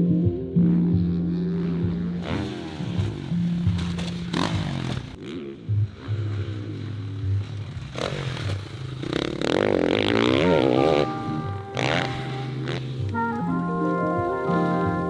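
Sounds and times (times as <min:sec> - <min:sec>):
dirt bike engine revving: 0:00.7 - 0:15.0.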